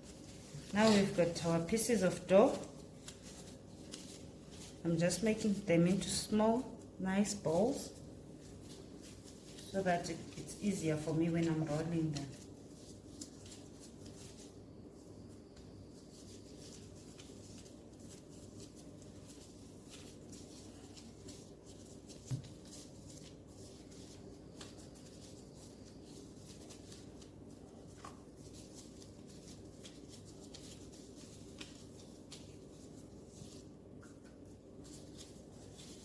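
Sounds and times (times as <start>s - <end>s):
hands shaping dough: 0.0s - 36.0s
low steady hum: 0.0s - 36.0s.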